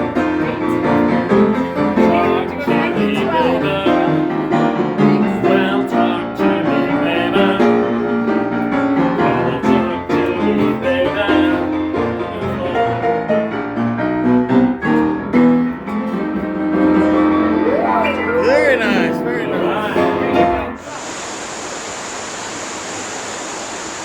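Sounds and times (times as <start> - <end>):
piano music: 0.0 - 20.9.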